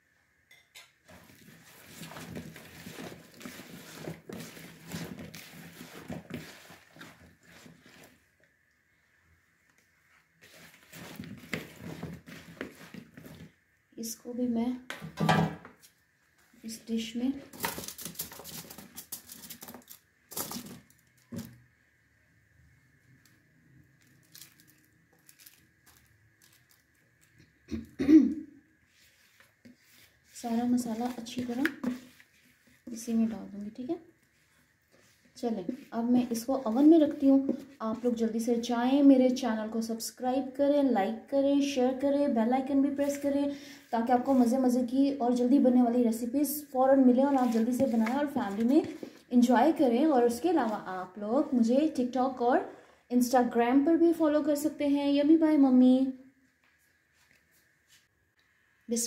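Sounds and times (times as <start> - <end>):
squishing and rustling by hand: 1.0 - 14.0, 15.8 - 22.0, 22.8 - 27.7, 28.7 - 40.6, 42.0 - 52.8, 56.4 - 58.6.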